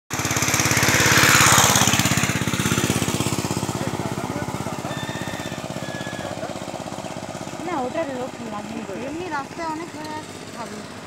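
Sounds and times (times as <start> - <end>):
motorcycle engine running: 0.1 - 11.0.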